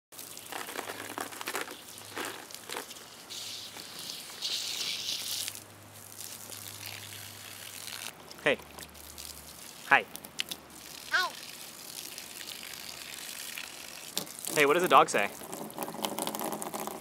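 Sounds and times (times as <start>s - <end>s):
garden hose spraying water: 0.1s - 17.0s.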